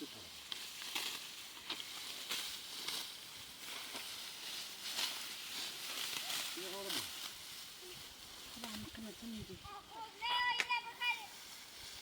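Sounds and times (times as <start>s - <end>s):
rustling and scraping: 0.0s - 12.0s
steady hiss: 0.0s - 12.0s.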